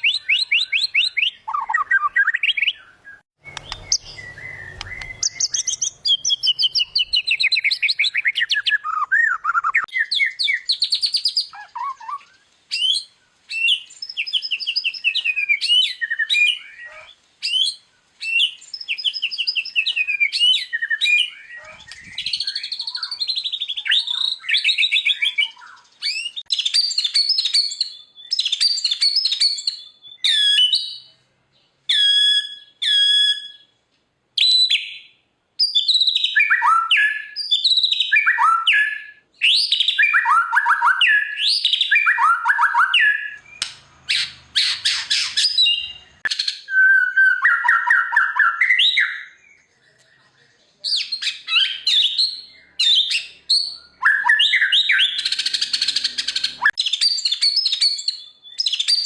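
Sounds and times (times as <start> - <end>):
songbird singing whistles and trills: 0.0 - 31.2, 31.8 - 33.8, 34.4 - 59.0.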